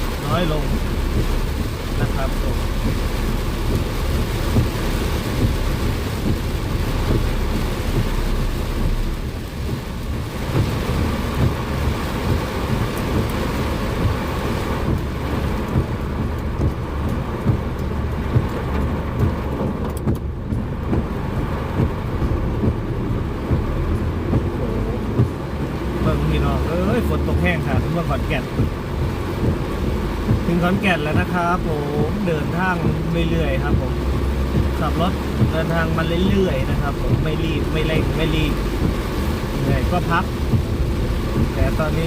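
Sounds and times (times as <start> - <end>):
heavy rain on a car: 0.0 - 42.0
road noise: 0.0 - 42.0.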